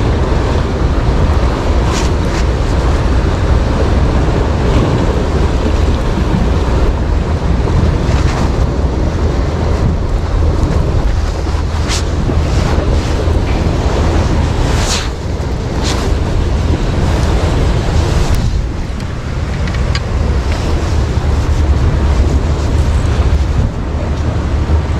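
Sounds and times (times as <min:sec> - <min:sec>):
sea waves washing: 0:00.0 - 0:24.9
wind buffeting microphone: 0:00.0 - 0:24.9.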